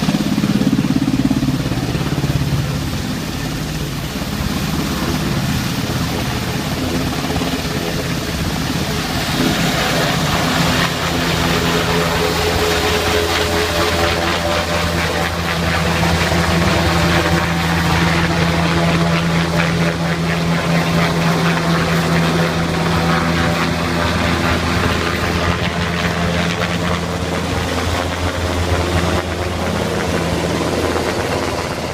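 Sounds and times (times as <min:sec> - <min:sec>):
helicopter rotor drone: 0:00.0 - 0:31.9.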